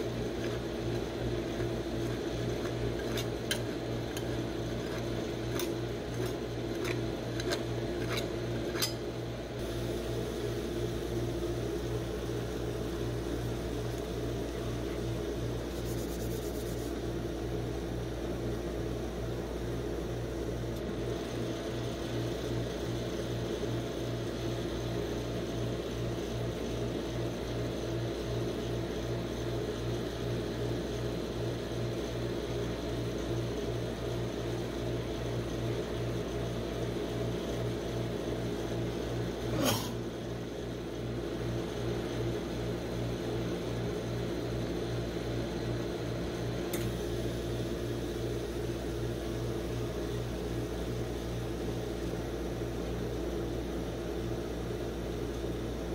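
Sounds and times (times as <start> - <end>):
ice cream machine humming: 0.0 - 55.9.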